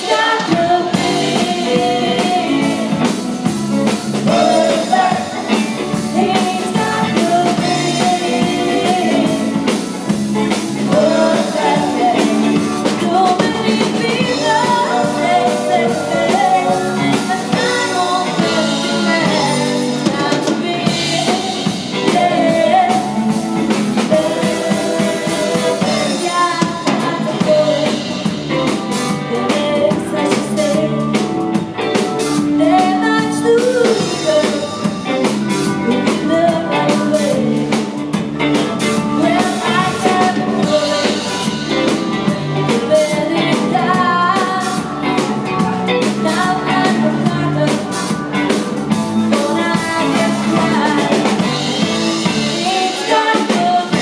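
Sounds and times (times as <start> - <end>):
drum kit: 0.0 - 54.0
electric guitar: 0.0 - 54.0
keyboard: 0.0 - 54.0
person singing: 0.0 - 54.0.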